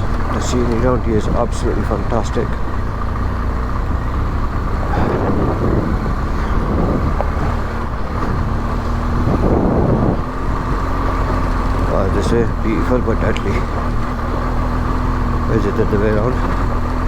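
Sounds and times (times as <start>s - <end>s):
motorcycle engine running: 0.0s - 17.0s
rough road noise: 0.0s - 17.0s.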